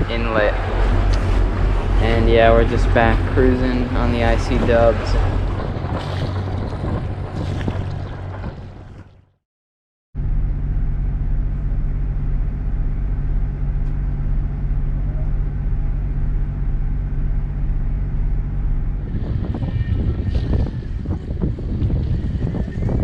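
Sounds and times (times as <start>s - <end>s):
wind: 0.0s - 9.2s, 10.2s - 23.0s
boat motor droning: 0.0s - 9.3s, 10.2s - 23.0s
water noise: 0.0s - 9.4s, 11.0s - 23.0s.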